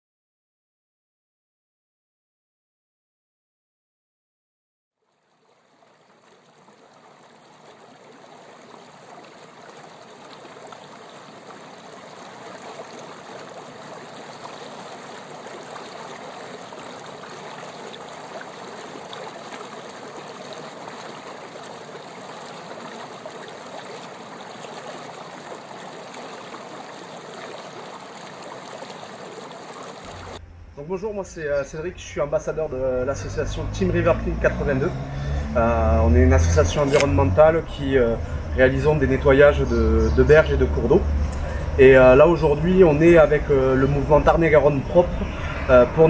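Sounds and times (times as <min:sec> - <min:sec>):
stream water rushing: 0:05.0 - 0:30.4, 0:32.6 - 0:46.0.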